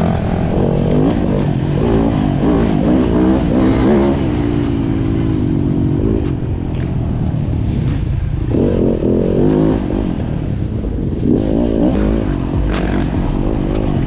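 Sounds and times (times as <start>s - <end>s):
dirt bike engine revving: 0.0s - 14.0s
low wind rumble: 0.0s - 14.0s.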